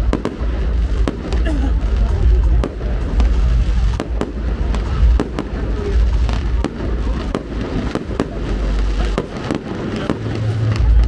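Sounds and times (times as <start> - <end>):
fireworks deep booms: 0.0 - 11.0
fireworks sharp cracks: 0.0 - 11.0.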